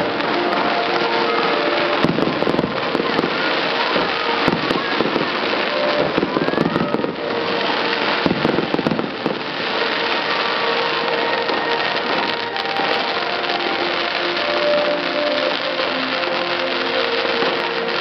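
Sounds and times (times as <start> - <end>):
fountain fireworks hissing: 0.0 - 18.0.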